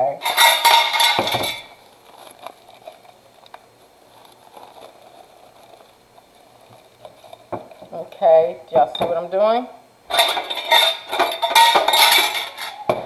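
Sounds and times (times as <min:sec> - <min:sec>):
low background hiss: 0:00.0 - 0:13.0.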